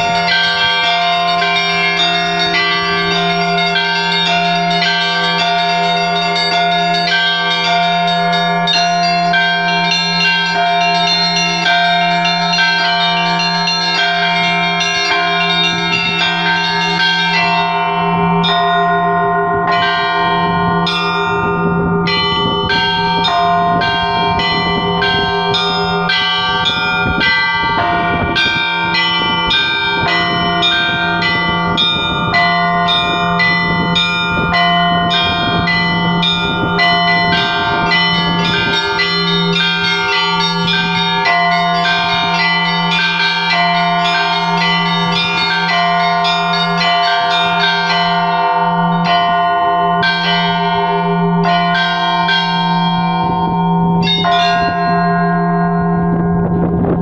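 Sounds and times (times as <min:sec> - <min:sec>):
large bell humming: 0:00.0 - 0:57.0
small church bells rung rhythmically: 0:00.0 - 0:57.0.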